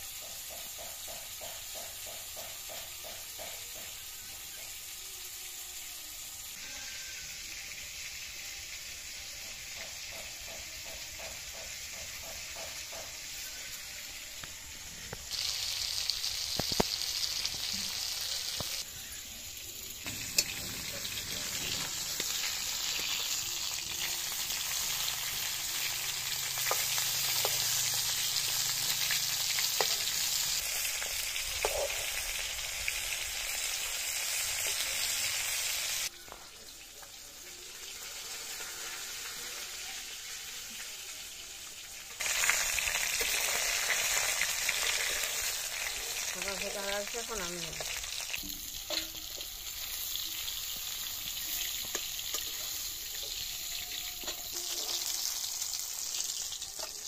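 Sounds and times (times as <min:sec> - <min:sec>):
fish frying in hot oil: 0:00.0 - 0:57.0.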